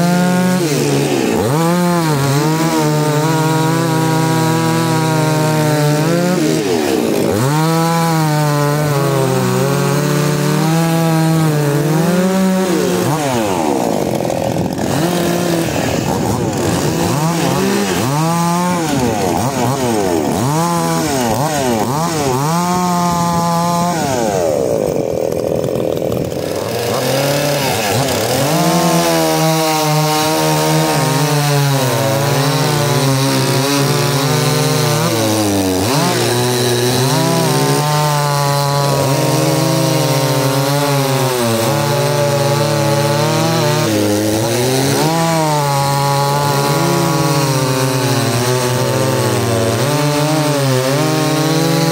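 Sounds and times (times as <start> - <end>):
chainsaws cutting wood: 0.0 - 51.9.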